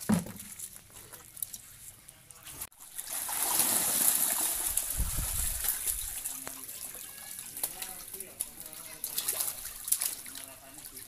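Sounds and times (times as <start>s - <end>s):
pond water splashing: 0.0s - 11.0s.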